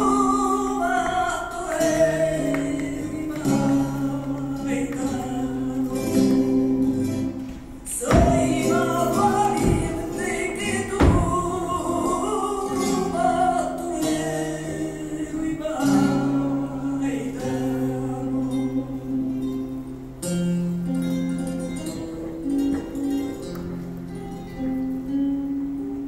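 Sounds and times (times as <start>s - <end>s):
flamenco guitar: 0.0s - 26.0s
person singing flamenco: 0.0s - 26.0s.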